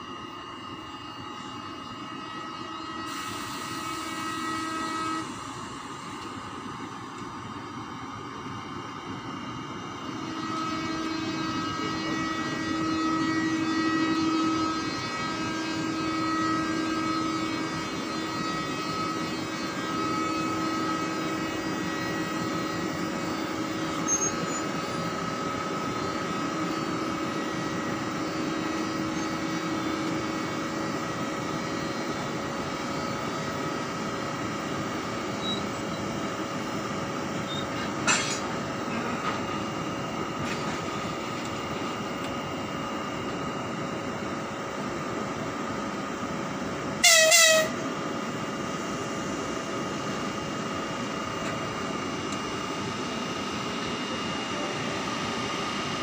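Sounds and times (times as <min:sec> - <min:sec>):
electric locomotive humming: 0:00.0 - 0:56.0.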